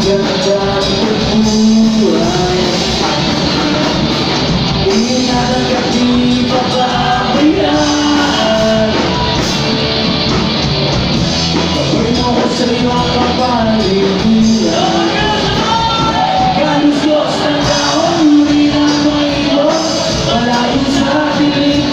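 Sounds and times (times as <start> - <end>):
man singing: 0.0 - 9.6, 11.6 - 21.9
live rock band playing: 0.0 - 21.9.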